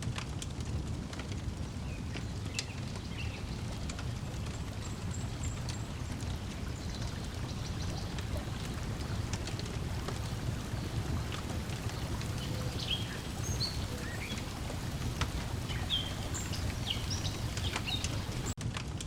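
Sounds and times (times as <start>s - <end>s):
wood fire crackling: 0.0s - 18.6s
water lapping at shore: 0.8s - 18.6s
faint bird chirps: 2.1s - 18.6s.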